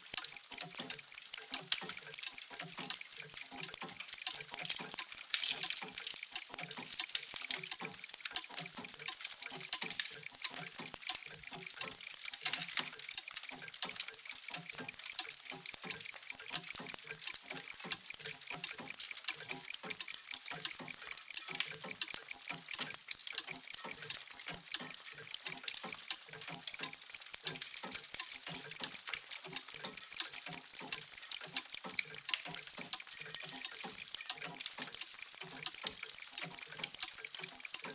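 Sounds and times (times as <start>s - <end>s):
many clocks ticking: 0.0s - 37.9s.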